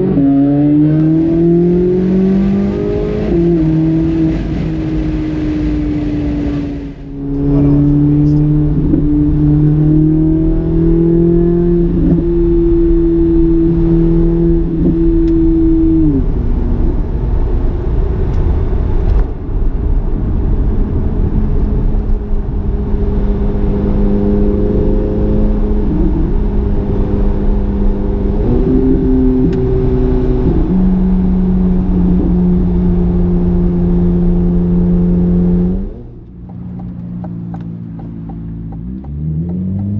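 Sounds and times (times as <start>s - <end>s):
car engine and exhaust cruising: 0.0s - 39.9s.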